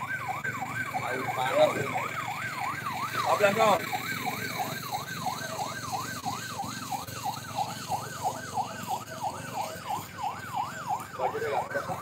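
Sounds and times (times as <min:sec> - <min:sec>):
emergency siren yelping: 0:00.0 - 0:12.0.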